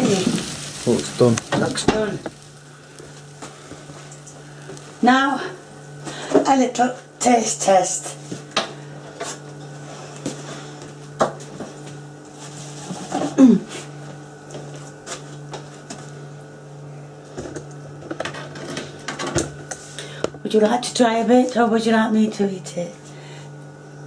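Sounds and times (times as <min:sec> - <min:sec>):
low kitchen hum: 0:00.0 - 0:24.0.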